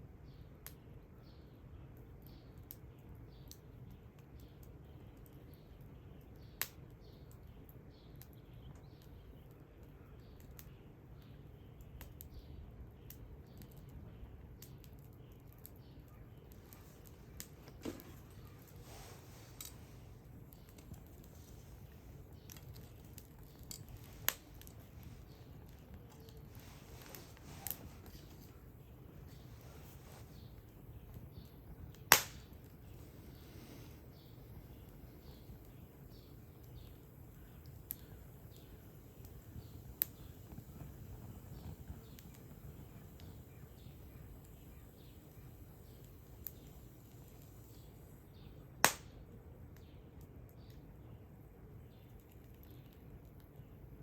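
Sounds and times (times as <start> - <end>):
campfire pops and crackles: 0.3 - 51.2.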